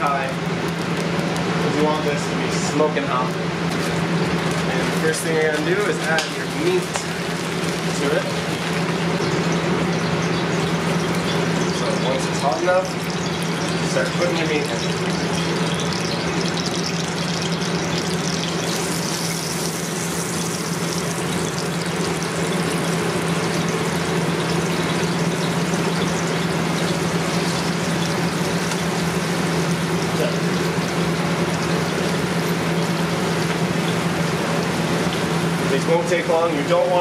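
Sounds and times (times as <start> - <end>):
meat sizzling in hot oil: 0.0 - 37.0
steady low hum: 0.0 - 37.0.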